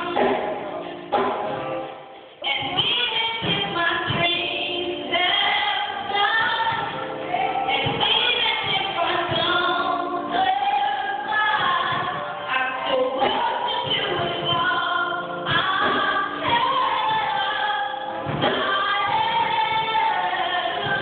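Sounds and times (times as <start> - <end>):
woman singing into microphone: 0.0 - 1.0, 2.4 - 21.0.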